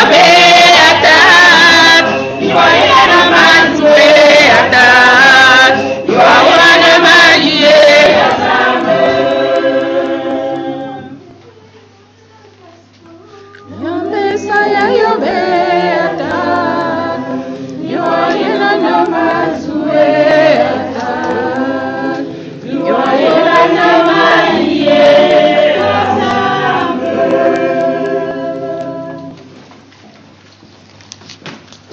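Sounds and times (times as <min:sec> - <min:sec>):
group singing a hymn: 0:00.0 - 0:11.2, 0:13.7 - 0:29.6.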